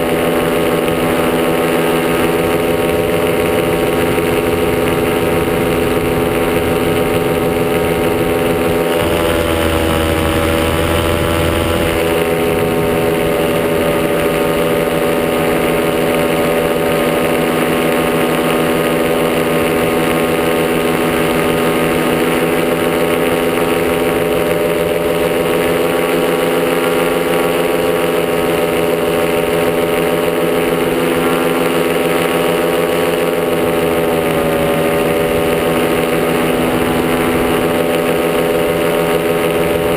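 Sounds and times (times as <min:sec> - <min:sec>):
paramotor engine running: 0:00.0 - 0:39.9.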